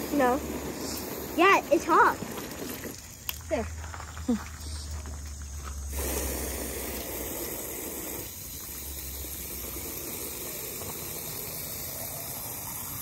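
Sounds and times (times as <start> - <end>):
hose water rushing into tank: 0.0 - 3.4, 5.8 - 13.0.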